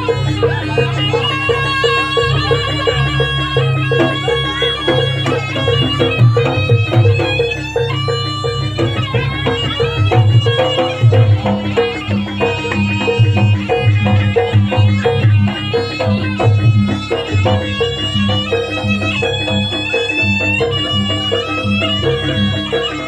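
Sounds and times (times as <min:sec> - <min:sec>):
quick percussion beat: 0:00.0 - 0:23.0
reedy wind instrument melody: 0:00.0 - 0:23.0.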